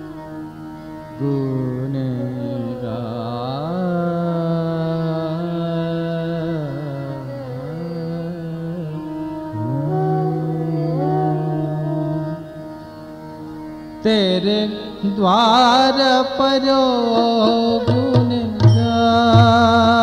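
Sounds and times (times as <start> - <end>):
devotional instrumental melody: 0.0 - 20.0.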